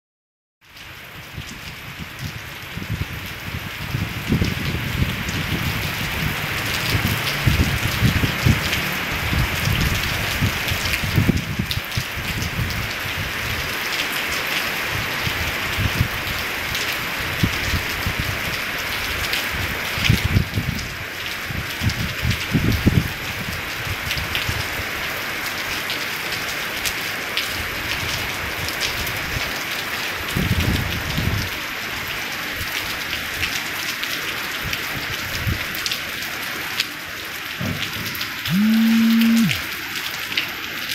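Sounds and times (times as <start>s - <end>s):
steady rain falling: 0.6s - 40.9s.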